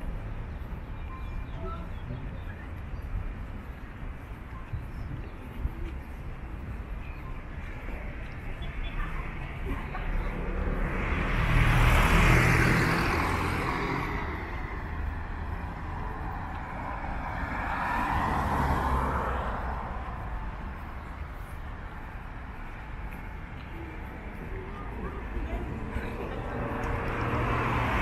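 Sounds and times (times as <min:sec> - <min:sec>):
cars driving past: 0:00.0 - 0:28.0
low traffic noise: 0:00.0 - 0:28.0.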